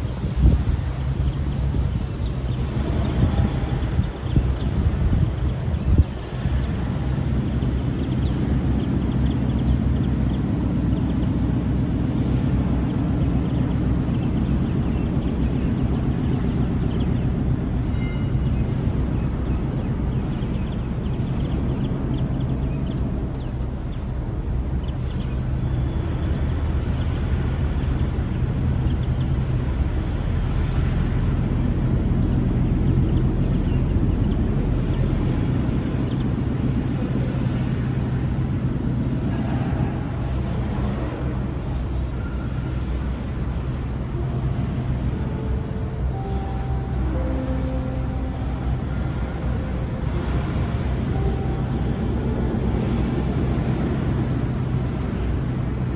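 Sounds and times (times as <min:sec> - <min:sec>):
birds chirping high: 0:00.0 - 0:55.9
steady low rumble: 0:00.0 - 0:55.9.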